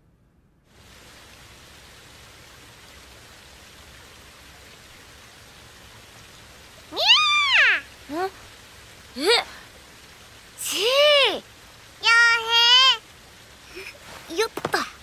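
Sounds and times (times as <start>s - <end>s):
steady rain: 0.6s - 15.0s.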